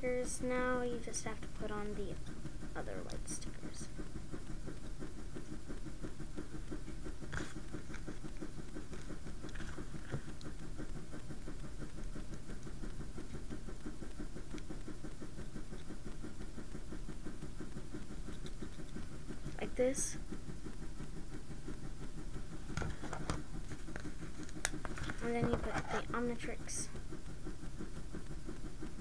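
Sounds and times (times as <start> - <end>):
fluttering background noise: 0.0 - 29.0.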